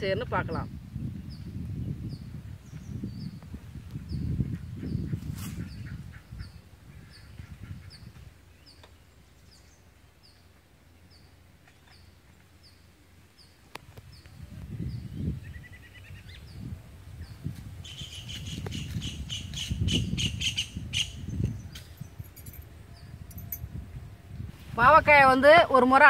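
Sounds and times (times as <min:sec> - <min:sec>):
small birds chirping: 0:00.0 - 0:23.8.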